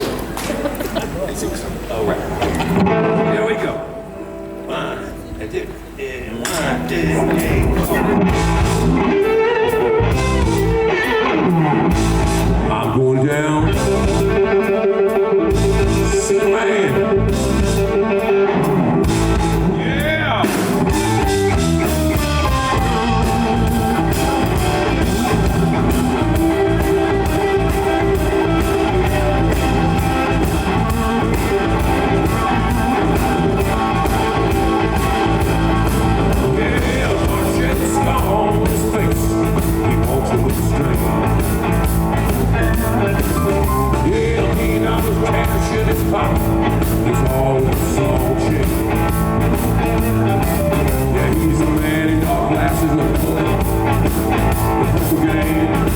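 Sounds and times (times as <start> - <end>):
electric guitar: 0.0 - 55.9
drum kit beat: 6.5 - 55.9.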